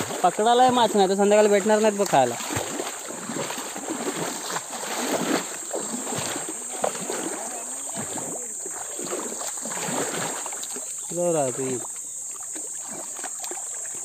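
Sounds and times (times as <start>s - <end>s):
pool water sloshing and splashing: 0.0s - 14.0s.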